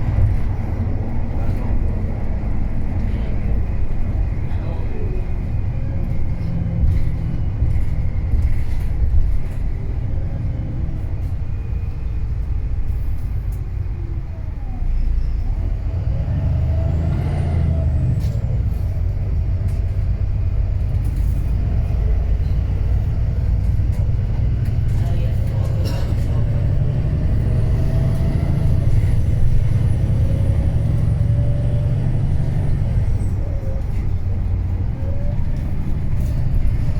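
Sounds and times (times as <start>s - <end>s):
bus diesel engine rumbling: 0.0s - 36.9s.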